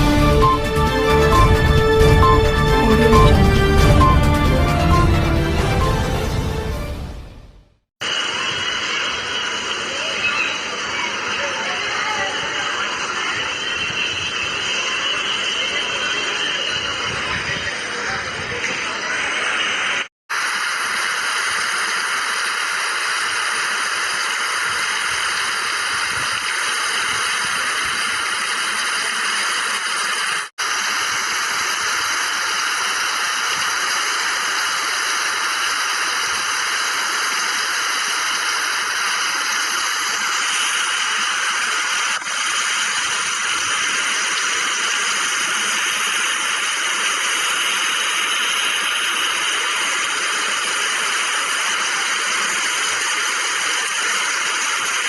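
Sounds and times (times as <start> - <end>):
heavy rain hissing: 8.0 - 55.0.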